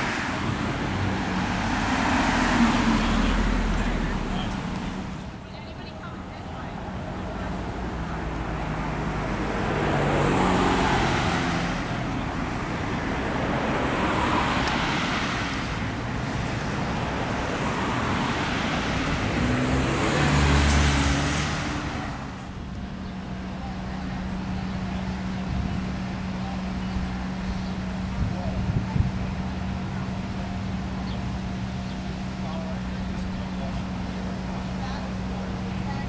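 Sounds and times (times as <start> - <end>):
cars passing: 0.0 - 36.0
low traffic hum: 0.0 - 36.0.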